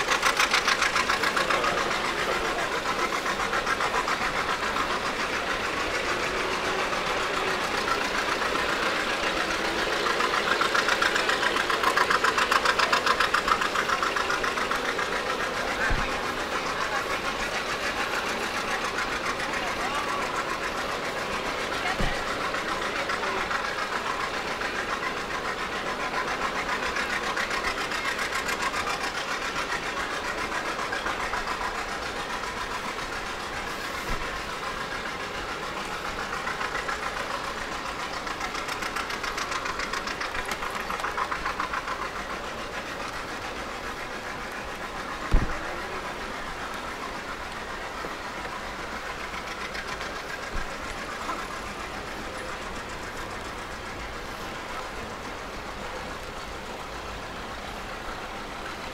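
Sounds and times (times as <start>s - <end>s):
engine running: 0.0s - 58.9s.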